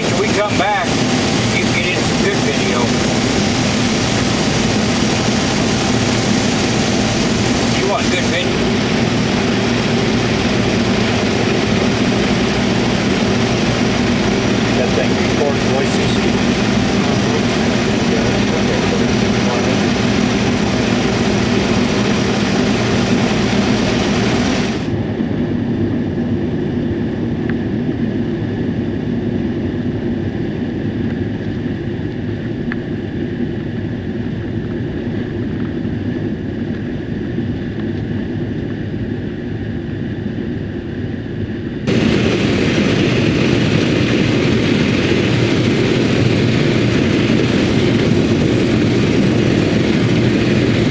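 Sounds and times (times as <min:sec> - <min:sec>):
combine harvester drone: 0:00.0 - 0:50.9.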